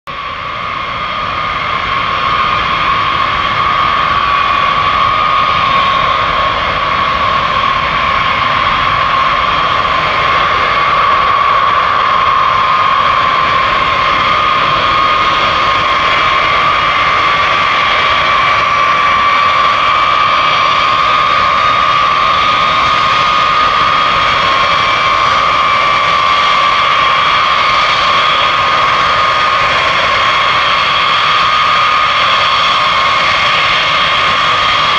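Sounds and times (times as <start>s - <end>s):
jet engines whining and roaring: 0.1s - 34.9s.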